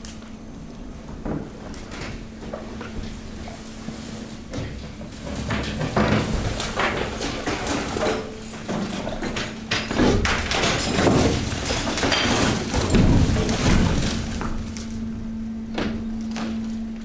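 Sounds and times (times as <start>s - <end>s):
hydraulic power unit hum: 0.0s - 17.0s.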